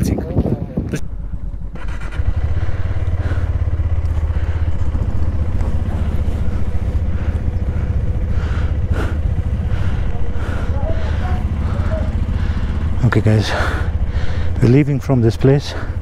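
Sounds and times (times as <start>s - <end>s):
motorcycle engine idling: 1.0s - 16.0s.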